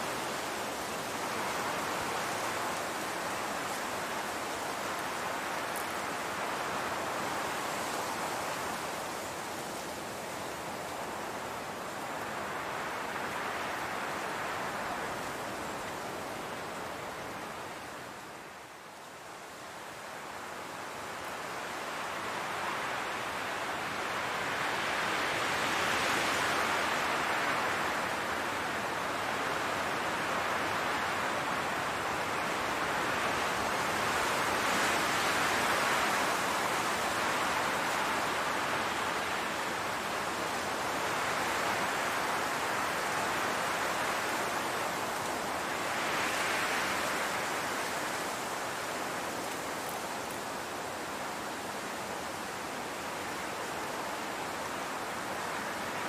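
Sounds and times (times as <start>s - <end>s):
wind through tall grass: 0.0s - 56.0s.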